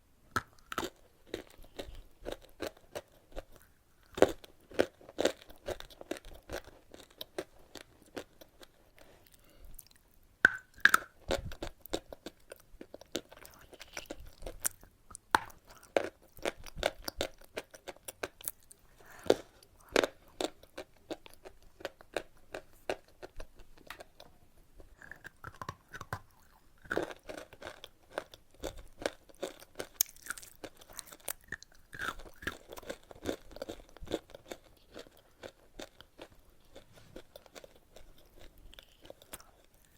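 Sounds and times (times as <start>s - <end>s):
chewing and crunching chalk: 0.4s - 24.2s, 24.8s - 39.9s.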